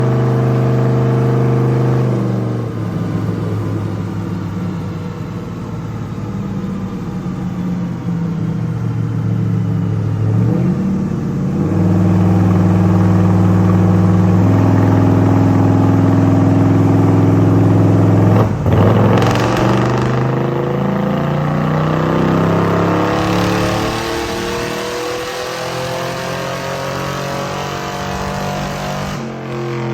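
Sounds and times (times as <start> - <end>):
car engine revving on a dyno: 0.0 - 4.9, 5.5 - 29.9.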